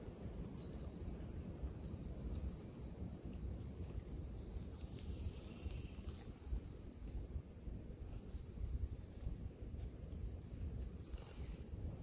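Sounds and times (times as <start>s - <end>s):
faint bird chirps: 0.5s - 9.4s, 10.0s - 11.8s.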